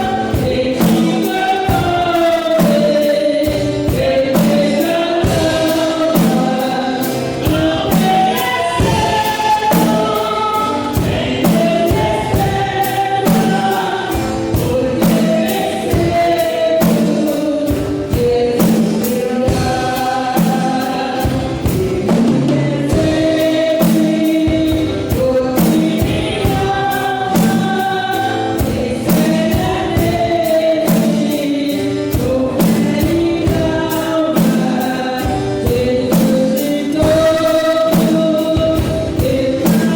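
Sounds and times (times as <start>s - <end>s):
choir singing gospel song: 0.0s - 39.9s
drum beat: 0.0s - 39.9s.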